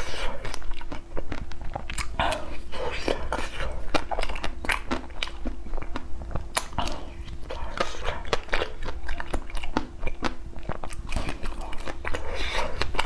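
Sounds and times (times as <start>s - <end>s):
crunchy bites and chewing: 0.0s - 13.0s.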